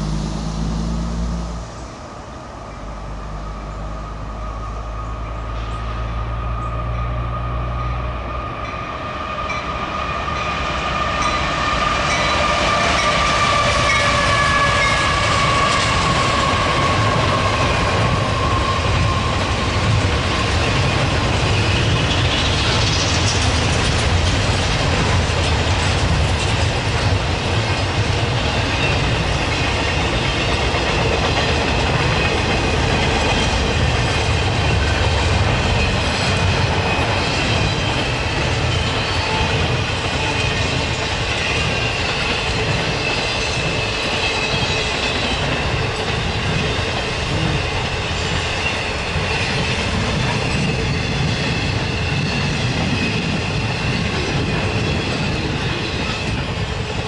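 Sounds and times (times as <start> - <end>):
freight train rumble and rattle: 0.0 - 57.0.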